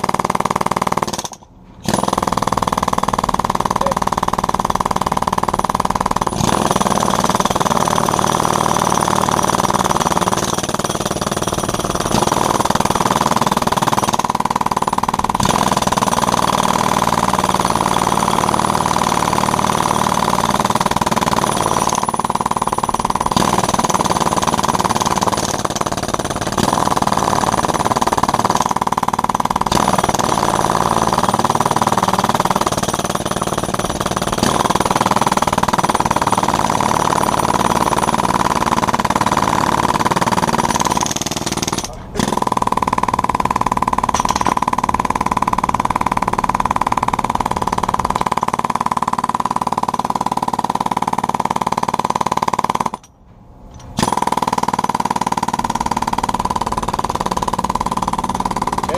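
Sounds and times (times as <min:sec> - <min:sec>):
jackhammer hammering concrete: 0:00.0 - 0:53.2, 0:54.0 - 0:58.9.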